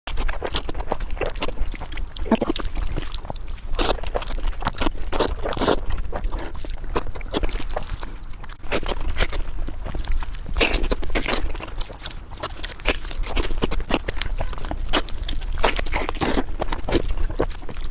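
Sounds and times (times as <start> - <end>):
person chewing meat: 0.1 - 17.9.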